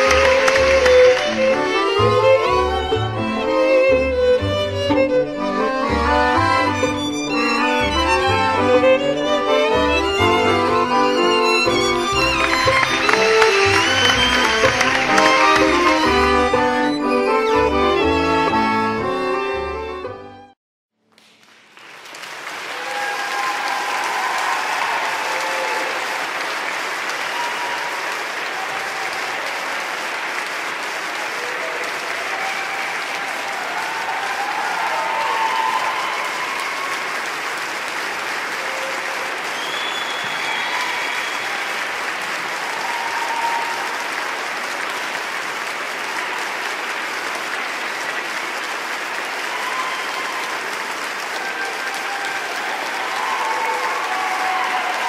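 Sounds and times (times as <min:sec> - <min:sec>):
audience applauding: 0:00.0 - 0:20.0, 0:21.1 - 0:55.0.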